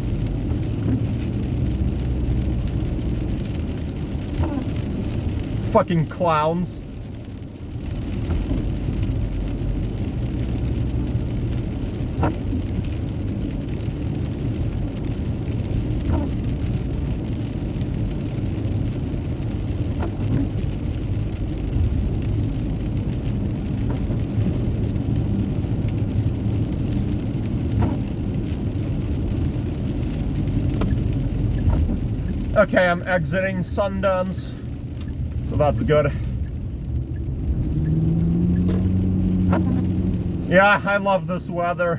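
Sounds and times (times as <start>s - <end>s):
car engine and tyres rumbling: 0.0s - 41.9s.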